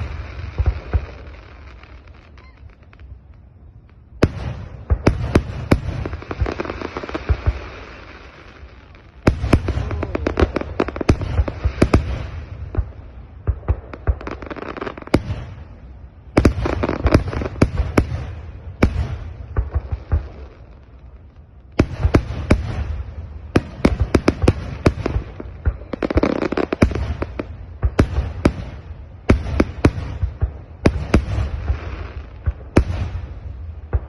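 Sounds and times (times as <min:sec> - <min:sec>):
fireworks bangs and crackle: 0:00.0 - 0:34.0.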